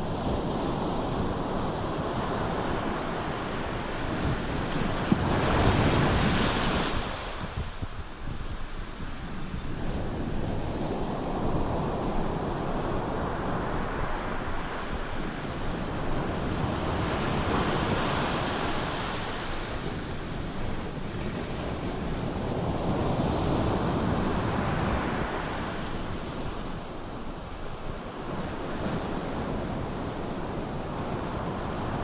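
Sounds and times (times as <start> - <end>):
ocean surf breaking on beach: 0.0 - 32.0
wind: 0.0 - 32.0.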